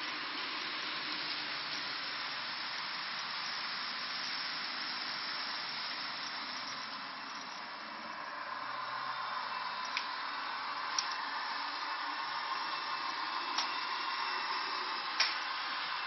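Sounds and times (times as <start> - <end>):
model train rolling on track: 0.0 - 16.0.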